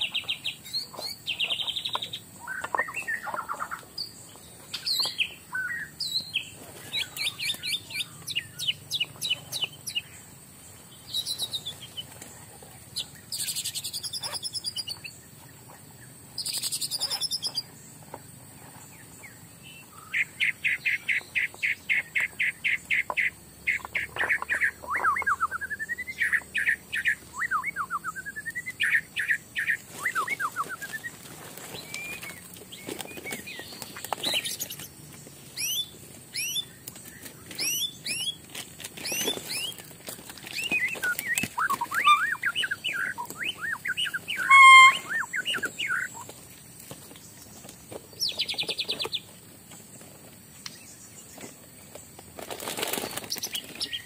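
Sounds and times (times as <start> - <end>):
forest birds calling: 0.0 - 54.0.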